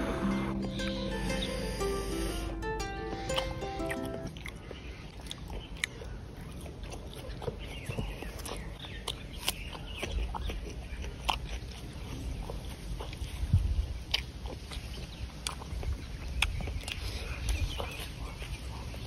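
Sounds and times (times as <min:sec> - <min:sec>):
chewing and wet mouth smacks: 0:03.4 - 0:19.0.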